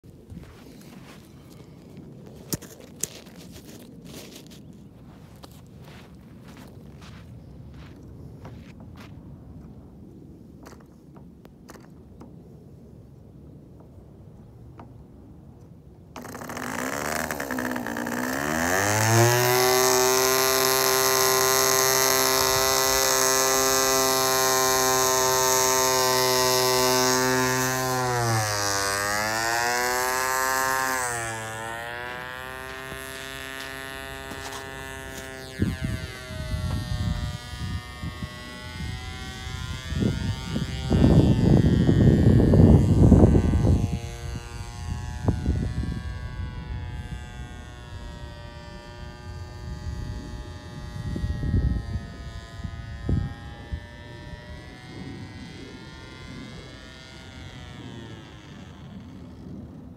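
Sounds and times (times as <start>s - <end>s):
model airplane engine buzzing: 0.0s - 8.4s, 16.0s - 59.9s.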